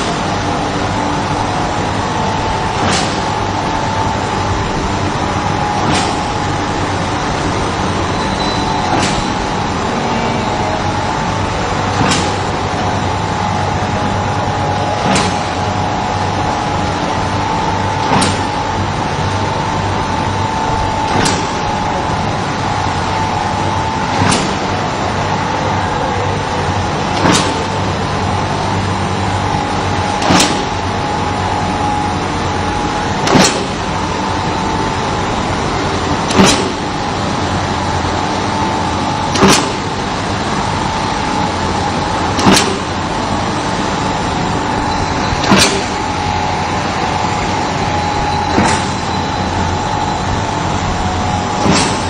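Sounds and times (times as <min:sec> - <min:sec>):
machine hum and whine: 0:00.0 - 0:52.0.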